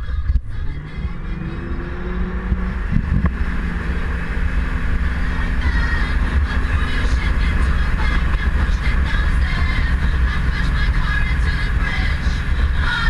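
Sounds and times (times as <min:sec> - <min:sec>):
wind rumble on microphone: 0:00.0 - 0:10.7
boat engine: 0:00.0 - 0:13.0.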